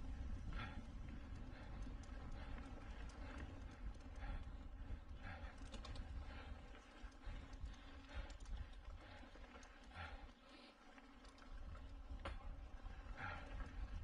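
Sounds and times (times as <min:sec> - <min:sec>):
bike rattling clicks: 0:00.0 - 0:10.2, 0:10.9 - 0:14.0.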